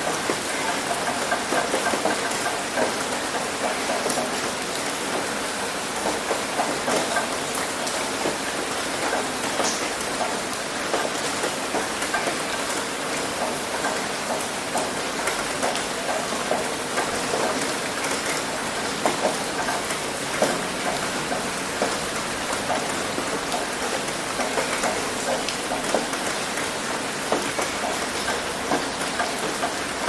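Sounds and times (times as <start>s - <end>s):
heavy rain on a roof: 0.0s - 30.0s.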